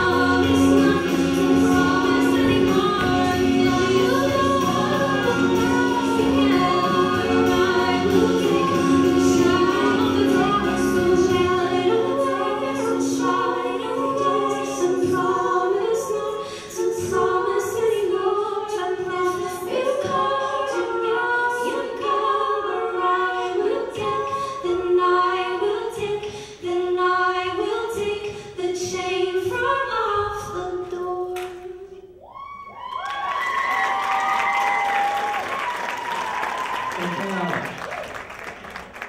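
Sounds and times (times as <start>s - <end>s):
women singing in harmony: 0.0s - 32.1s.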